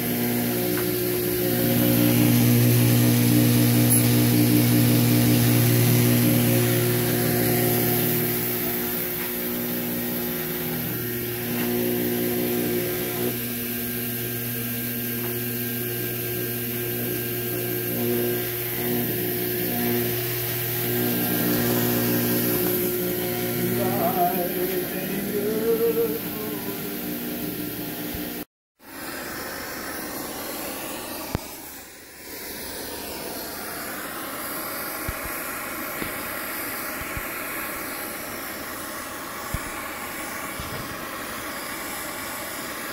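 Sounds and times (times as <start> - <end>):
electric pump motor hum: 0.0 - 42.9.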